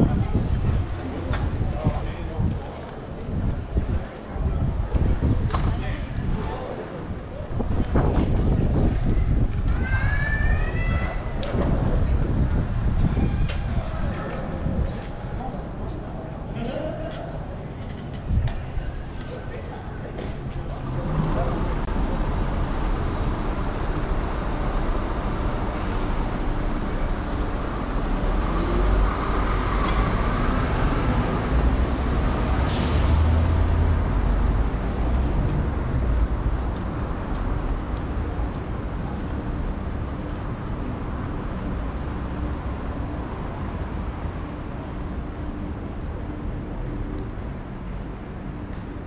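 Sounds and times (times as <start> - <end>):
low rumble of traffic: 0.0 - 49.0.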